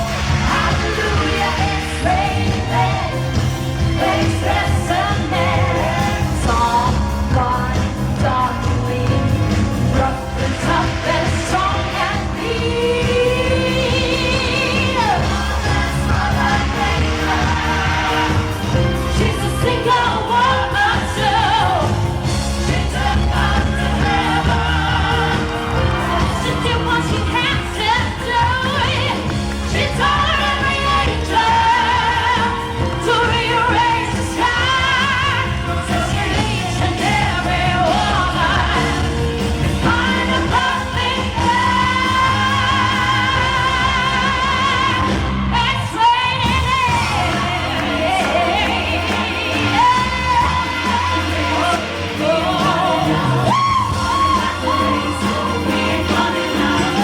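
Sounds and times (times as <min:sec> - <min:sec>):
band playing dance-pop: 0:00.0 - 0:57.0.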